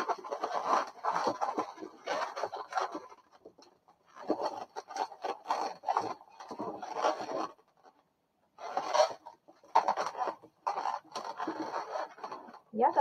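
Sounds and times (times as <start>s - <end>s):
balloons squeaking against each other: 0.0s - 13.0s.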